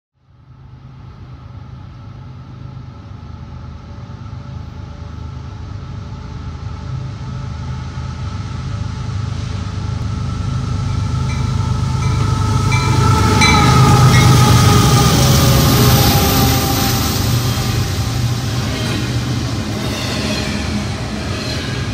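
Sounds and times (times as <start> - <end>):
diesel locomotive engine rumble: 0.3 - 21.9
locomotive whine: 3.6 - 21.9.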